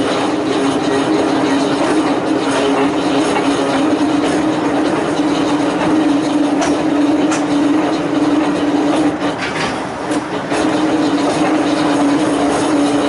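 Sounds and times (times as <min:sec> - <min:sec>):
wheels on rail: 0:00.0 - 0:13.0.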